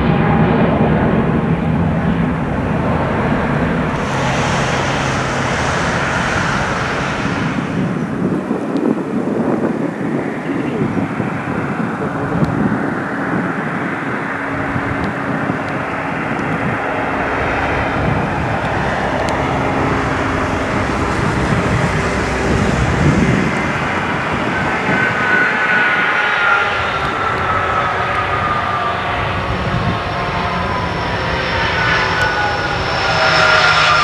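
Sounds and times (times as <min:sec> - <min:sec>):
engine whine falling in pitch: 0:00.0 - 0:34.0
jet engine roar: 0:00.0 - 0:34.0.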